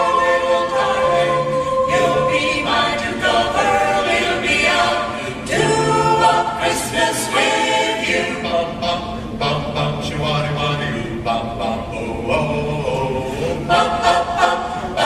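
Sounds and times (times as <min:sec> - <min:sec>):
vocal group singing in harmony: 0:00.0 - 0:15.0.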